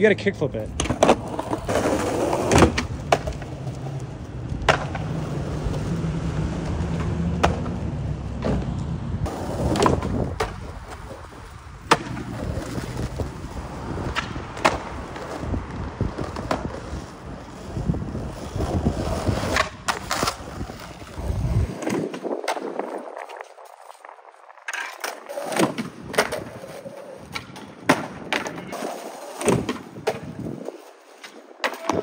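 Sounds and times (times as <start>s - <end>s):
skateboard wheels rolling on asphalt: 0.0s - 32.0s
skateboard clacking: 0.6s - 24.0s, 24.6s - 32.0s.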